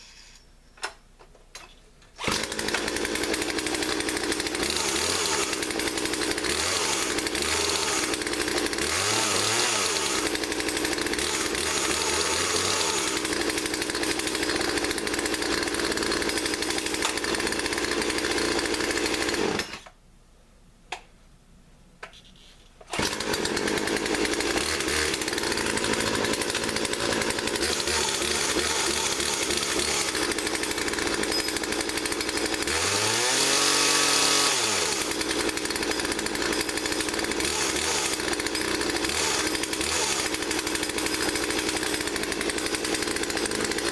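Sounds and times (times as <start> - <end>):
chainsaw revving: 2.2 - 19.9, 22.9 - 43.9.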